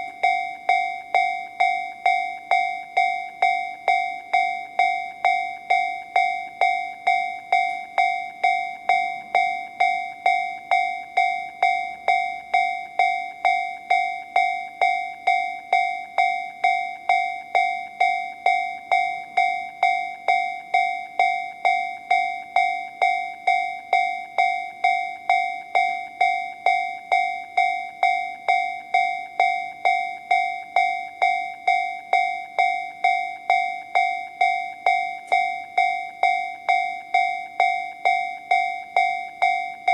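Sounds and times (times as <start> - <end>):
level-crossing alarm dings: 0.0 - 39.9.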